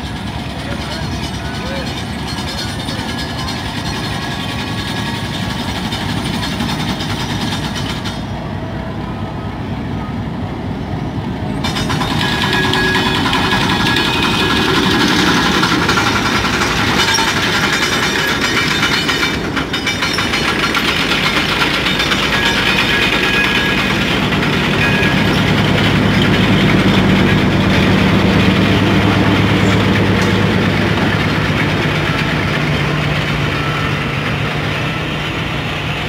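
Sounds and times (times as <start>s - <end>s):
diesel locomotive engine running: 0.0s - 36.0s.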